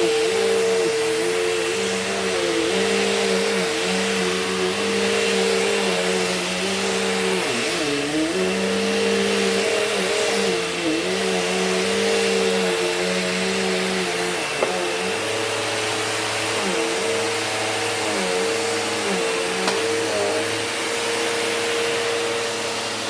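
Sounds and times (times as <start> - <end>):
vacuum cleaner motor whine: 0.0 - 23.0.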